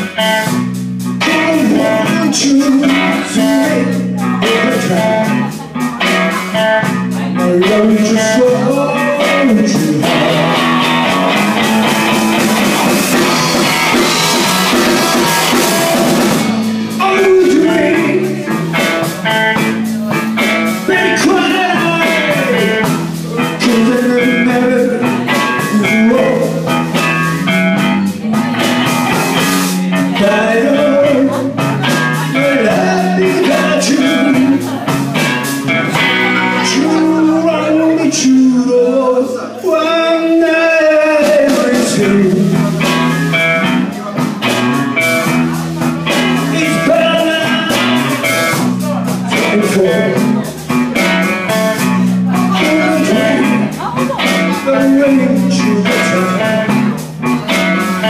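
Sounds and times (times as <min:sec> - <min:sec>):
drum kit: 0:00.0 - 0:39.0, 0:39.7 - 0:58.0
electric guitars: 0:00.0 - 0:58.0.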